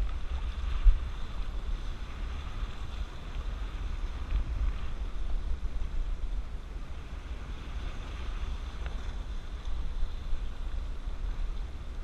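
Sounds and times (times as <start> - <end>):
sea waves washing over rocks: 0.0 - 12.0
wind buffeting microphone: 0.0 - 12.0.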